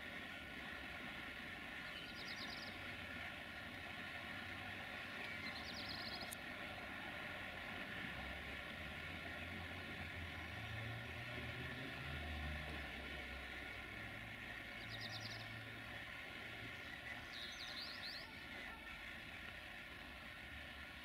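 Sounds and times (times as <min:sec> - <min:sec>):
distant train engine hum: 0:00.0 - 0:21.0.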